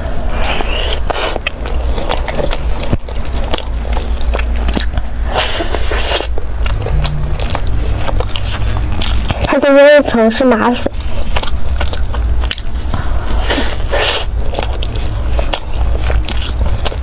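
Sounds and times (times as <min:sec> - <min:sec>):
chewing crunchy pancake: 0:00.0 - 0:17.0.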